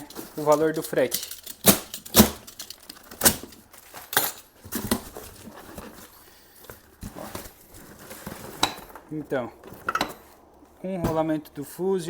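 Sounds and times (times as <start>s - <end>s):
parts knocking and clattering: 0.0s - 11.6s.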